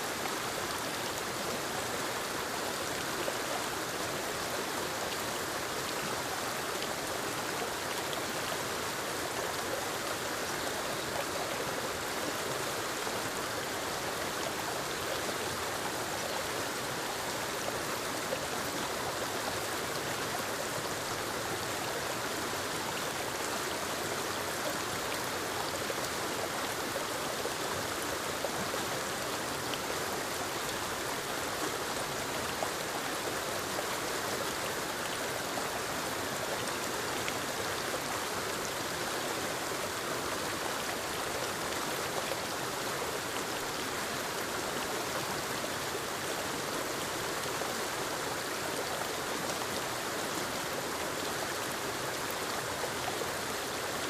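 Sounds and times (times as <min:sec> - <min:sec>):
waterfall cascading over rocks: 0:00.0 - 0:54.0.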